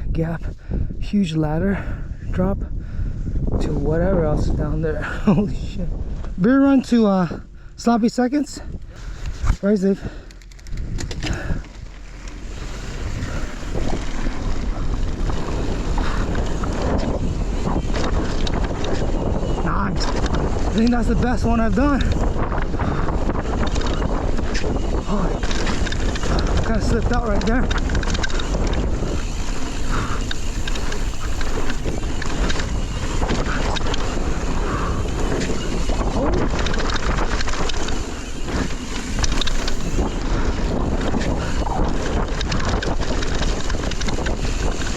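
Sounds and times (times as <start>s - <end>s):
wind rushing over microphone: 0.0s - 44.9s
bike clicks and rattles: 4.3s - 44.9s.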